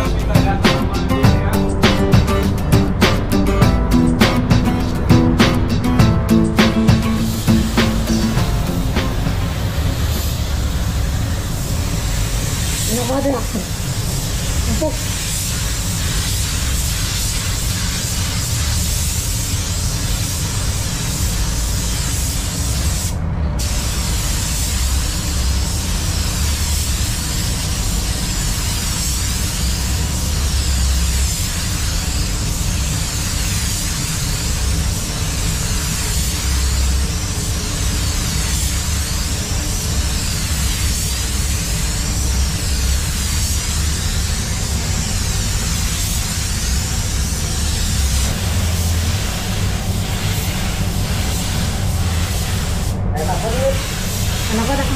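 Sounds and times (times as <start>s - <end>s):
steady low rumble: 0.0s - 54.9s
spray gun hissing: 4.0s - 54.9s.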